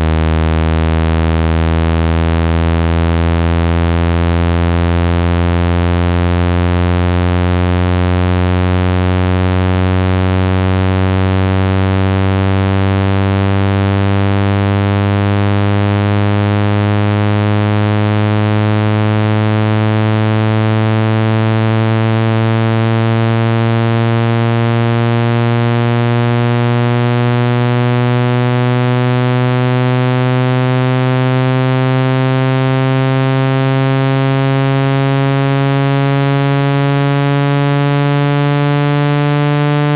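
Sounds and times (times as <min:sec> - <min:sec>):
synthesized low buzzing tone: 0:00.0 - 0:39.9.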